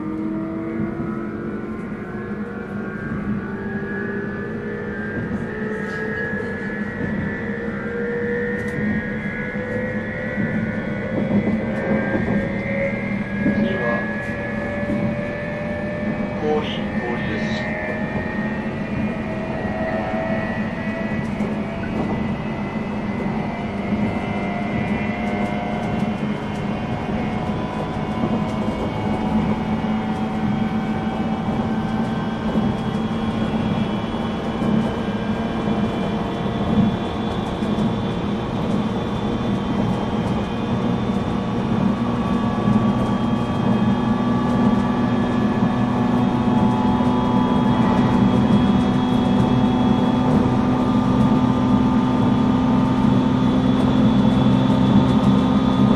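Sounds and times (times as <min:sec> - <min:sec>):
rail and rolling noise: 0:00.0 - 0:55.9
electric train motors humming: 0:00.2 - 0:55.9.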